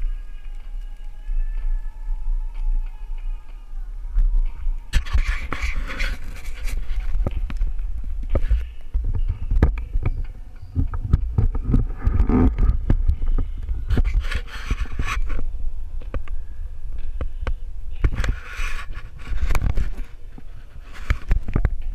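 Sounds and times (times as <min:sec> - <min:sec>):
wind rumble on microphone: 0:00.0 - 0:21.9.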